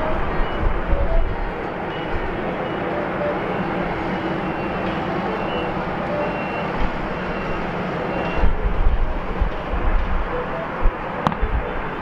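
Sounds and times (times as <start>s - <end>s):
aircraft engines: 0.0s - 12.0s
wind rumbling on microphone: 0.0s - 12.0s.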